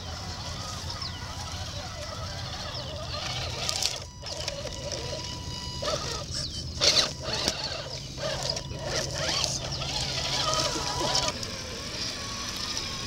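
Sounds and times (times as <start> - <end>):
electric motor whine: 0.0 - 13.0
tyres crackling over dry leaves: 0.0 - 13.0.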